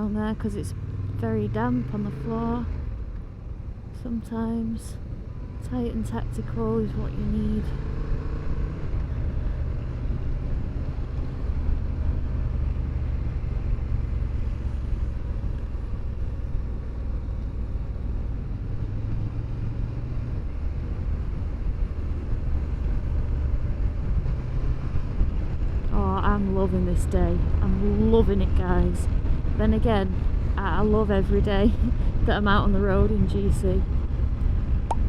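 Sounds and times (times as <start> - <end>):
motorcycle engine droning: 0.0 - 35.0.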